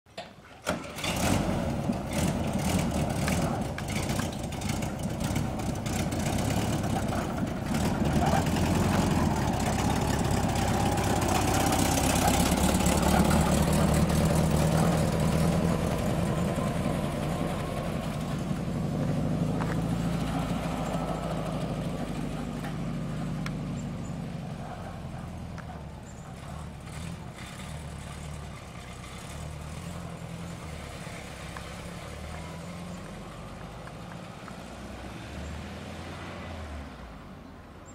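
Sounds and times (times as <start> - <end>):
van engine running: 0.8 - 34.6.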